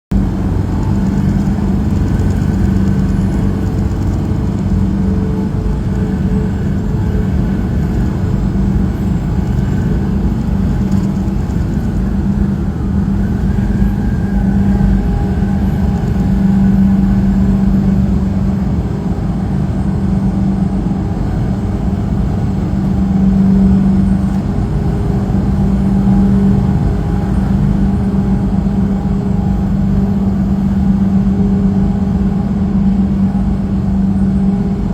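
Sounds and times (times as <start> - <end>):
road rumble: 0.1 - 34.9
truck engine drone: 0.1 - 34.9.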